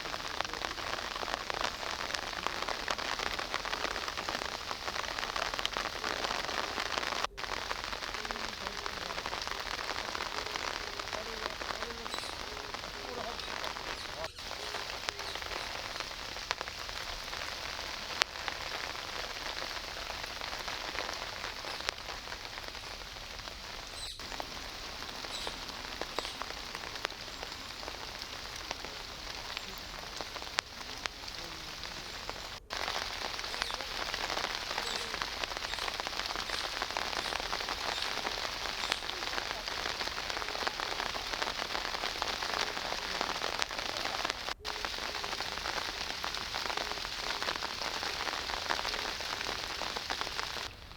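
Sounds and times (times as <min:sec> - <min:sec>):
raindrop ticks: 0:00.0 - 0:50.9
steady rain hiss: 0:00.0 - 0:50.9.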